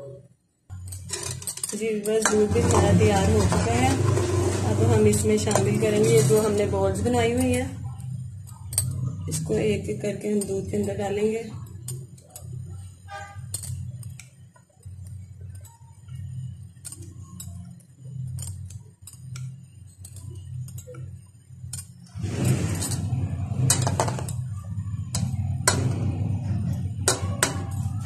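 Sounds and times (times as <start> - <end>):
low hum: 0.7 - 28.0.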